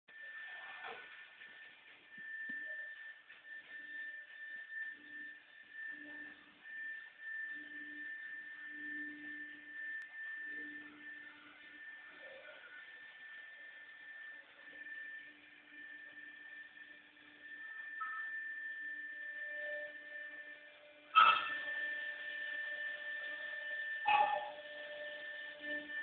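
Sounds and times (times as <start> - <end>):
cnc router high whine: 0.1 - 26.0
low machine hum: 0.1 - 26.0.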